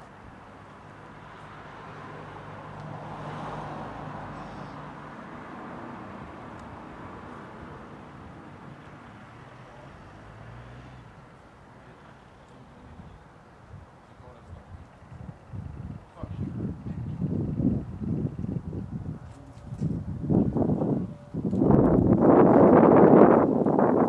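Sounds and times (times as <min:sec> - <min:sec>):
car passing: 0:00.4 - 0:24.0.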